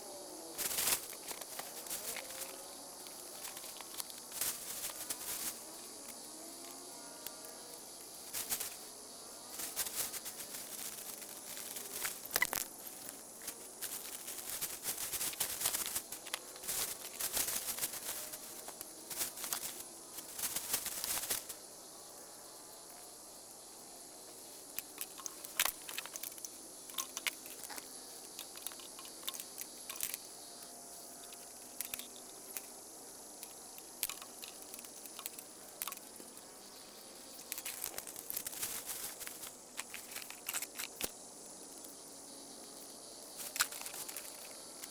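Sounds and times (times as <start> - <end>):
high-pitched insect buzz: 0.0 - 44.9
crunching and crackling: 0.6 - 8.9, 9.5 - 21.6, 24.6 - 41.2, 43.3 - 44.9.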